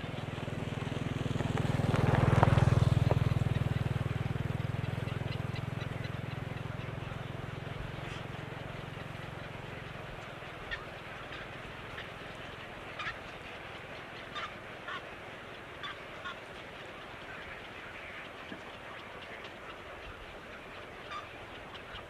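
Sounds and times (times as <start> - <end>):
sharp bird calls: 1.8 - 22.0.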